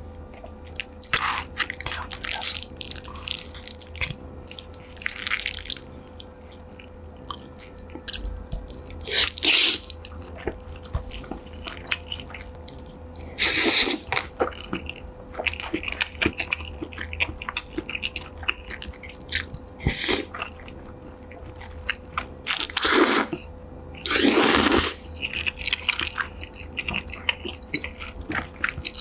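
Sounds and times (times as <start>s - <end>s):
wet chewing with mouth clicks: 0.3s - 29.0s.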